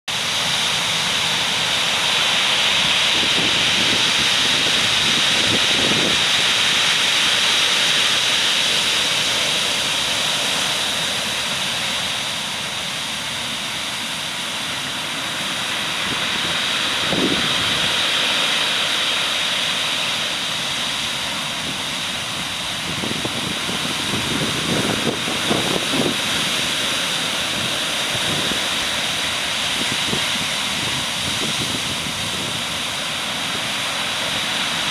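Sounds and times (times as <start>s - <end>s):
heavy surf breaking on shore: 0.1s - 34.9s.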